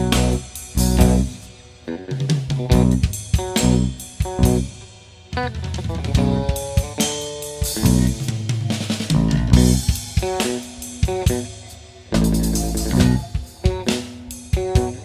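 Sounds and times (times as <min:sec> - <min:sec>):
instrumental music with guitar and drums: 0:00.0 - 0:15.0.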